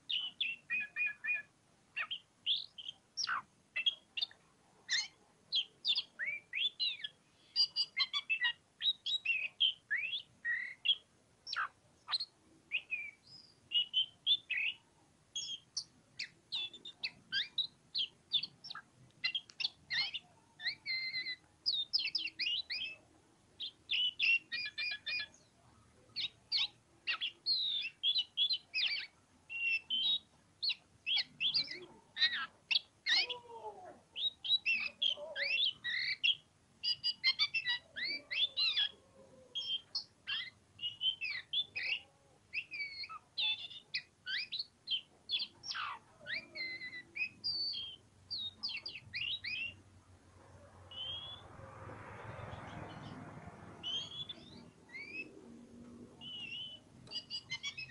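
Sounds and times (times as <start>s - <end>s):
magpie-robin singing: 0.0s - 49.9s, 50.8s - 51.5s, 52.3s - 57.9s.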